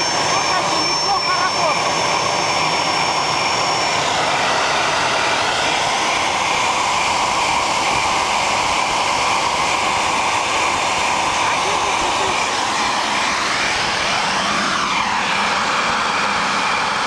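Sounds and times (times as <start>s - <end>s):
small turbojet roaring: 0.0s - 17.0s.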